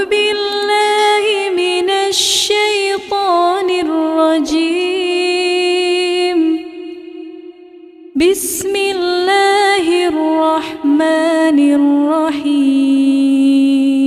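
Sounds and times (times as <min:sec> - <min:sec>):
person chanting recitation: 0:00.0 - 0:07.1, 0:08.2 - 0:14.0.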